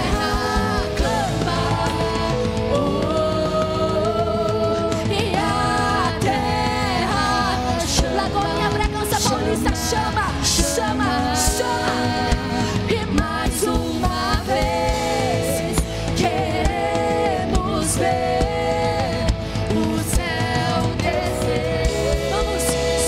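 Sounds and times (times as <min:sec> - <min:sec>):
band with electric guitar and bass: 0:00.0 - 0:23.0
man and women singing: 0:00.0 - 0:23.0.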